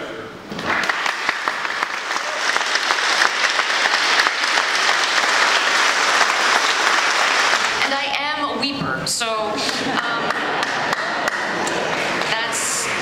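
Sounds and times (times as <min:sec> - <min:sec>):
crowd applauding: 0:00.5 - 0:08.0, 0:09.6 - 0:13.0.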